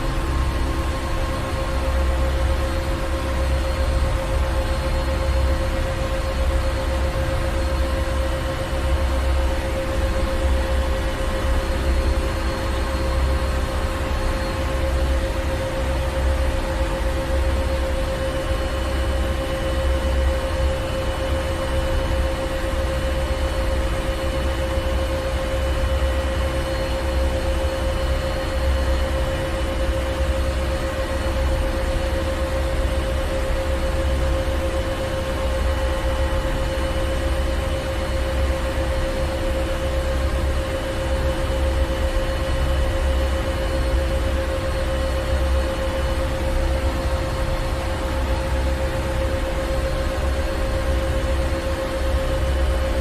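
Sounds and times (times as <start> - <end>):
engine room machinery rumbling: 0.0 - 53.0.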